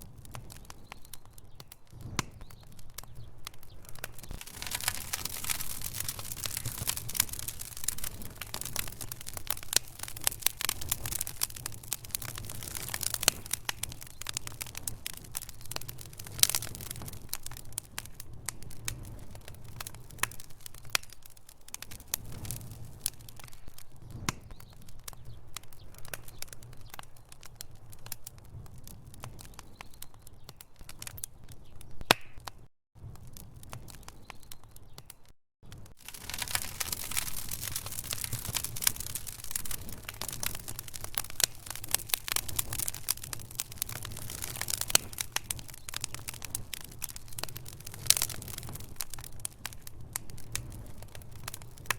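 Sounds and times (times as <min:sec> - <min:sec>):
low fire rumble: 0:00.0 - 0:31.8, 0:33.0 - 0:51.9
logs crackling and popping: 0:00.0 - 0:51.9.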